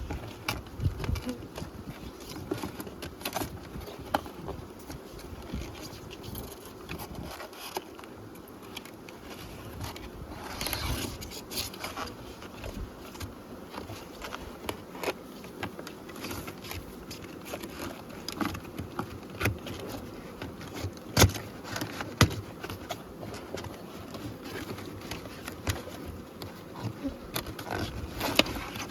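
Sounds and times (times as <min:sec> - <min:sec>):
honeybees buzzing: 0:00.0 - 0:28.9.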